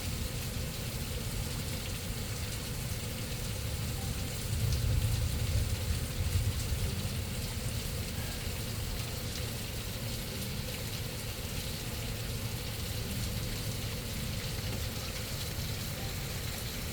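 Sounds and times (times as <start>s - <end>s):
rain on flooded street: 0.0s - 16.9s.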